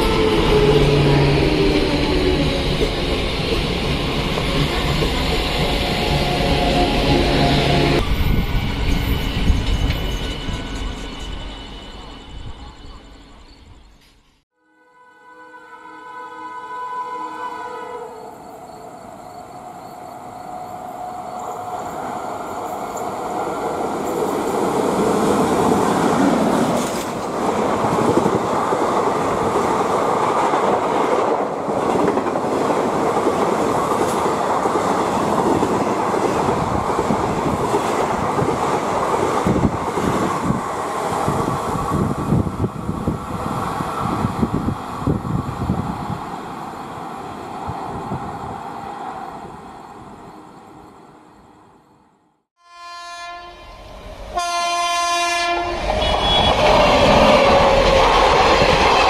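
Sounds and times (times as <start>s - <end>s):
passenger train rumbling past: 0.0s - 14.4s, 16.4s - 52.1s, 52.7s - 59.0s.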